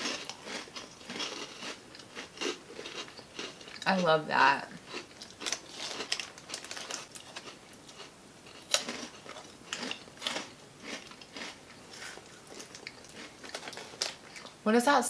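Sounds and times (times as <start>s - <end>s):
crunching crisp snacks: 0.0s - 4.0s, 4.8s - 14.6s.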